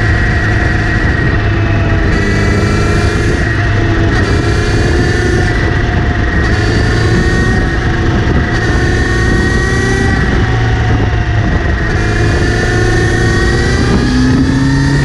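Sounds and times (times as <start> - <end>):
motorcycle engine running: 0.0 - 15.0
steady high whine: 0.0 - 15.0.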